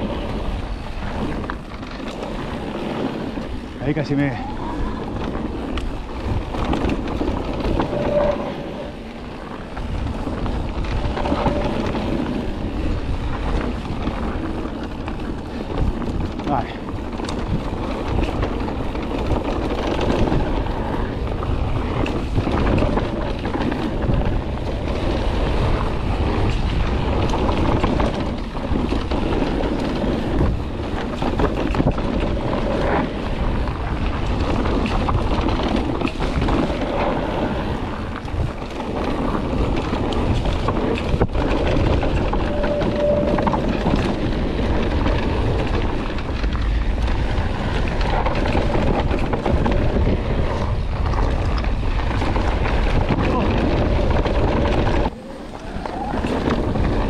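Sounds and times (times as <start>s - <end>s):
bike tyres rumbling: 0.0s - 57.0s
wind buffeting microphone: 0.0s - 57.0s.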